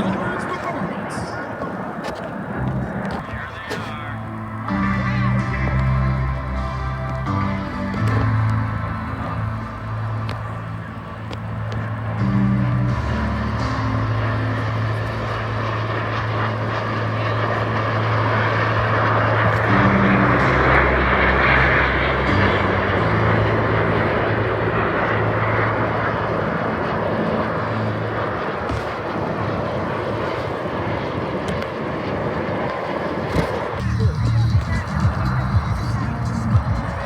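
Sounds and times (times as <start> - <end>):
airplane engine flying past: 0.0 - 37.0.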